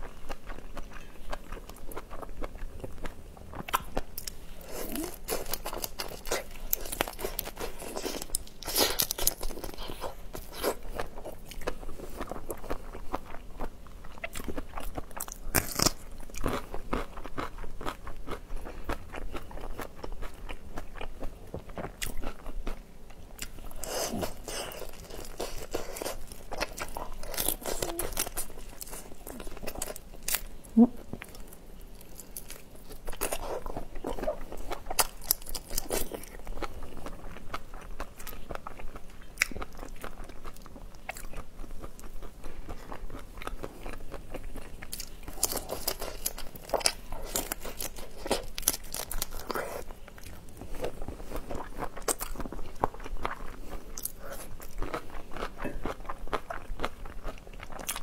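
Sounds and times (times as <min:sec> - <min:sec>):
wet chewing: 0:00.0 - 0:58.0.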